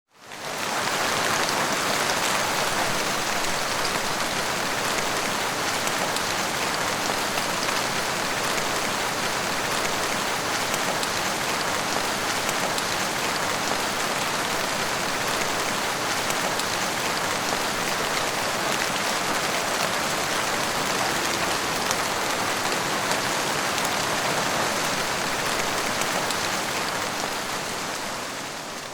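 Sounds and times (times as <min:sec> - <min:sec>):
heavy rain falling: 0:00.2 - 0:28.9.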